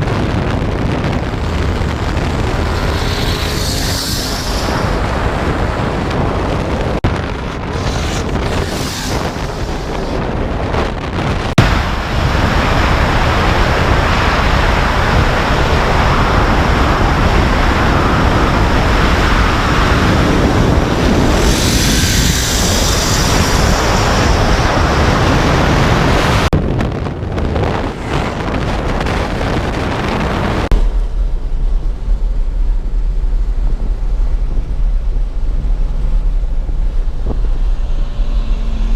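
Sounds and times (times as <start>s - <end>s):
turbocharged engine accelerating: 0.0s - 38.9s
wind rush on microphone: 0.0s - 38.9s.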